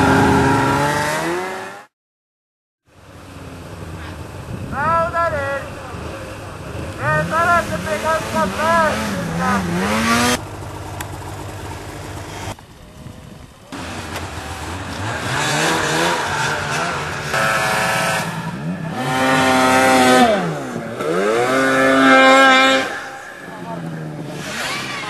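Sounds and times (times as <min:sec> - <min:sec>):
snowmobile engines revving: 0:00.0 - 0:01.9, 0:03.2 - 0:25.0.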